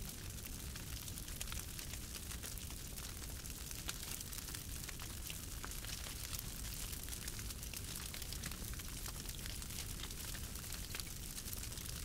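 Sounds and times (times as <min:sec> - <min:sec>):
campfire hissing and crackling: 0:00.0 - 0:12.0.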